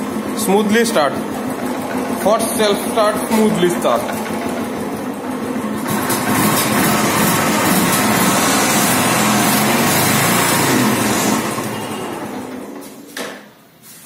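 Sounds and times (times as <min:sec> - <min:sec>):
engine winding down: 0:00.0 - 0:13.1
motorcycle engine running: 0:00.0 - 0:13.1.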